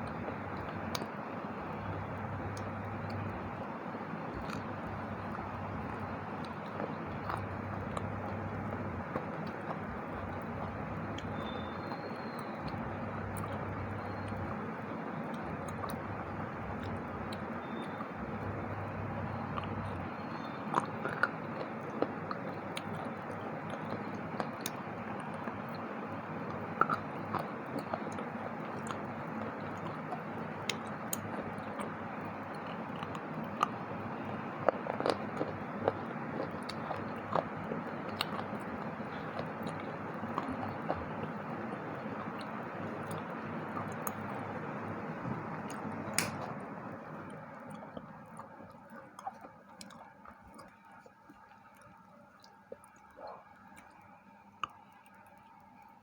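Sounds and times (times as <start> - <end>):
person chewing crunchy snack: 4.3 - 44.8, 45.4 - 54.0.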